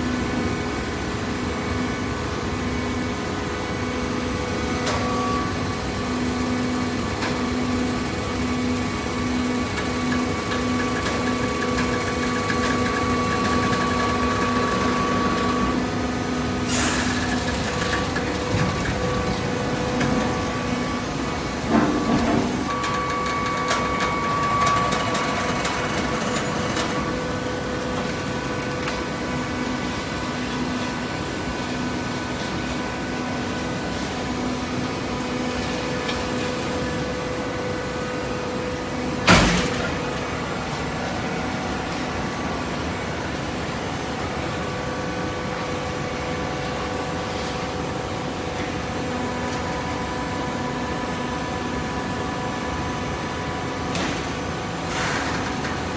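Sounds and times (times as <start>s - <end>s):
hydraulic press motor and pump hum: 0.0s - 55.9s.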